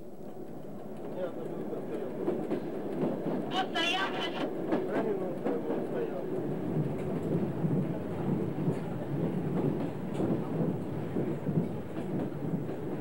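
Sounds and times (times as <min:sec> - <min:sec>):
train wheels rumbling on rails: 0:00.2 - 0:13.0.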